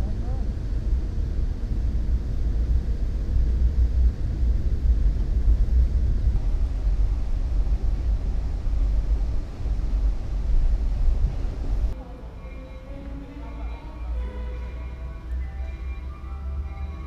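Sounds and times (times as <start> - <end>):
train rumbling inside coach: 0.0 - 17.0.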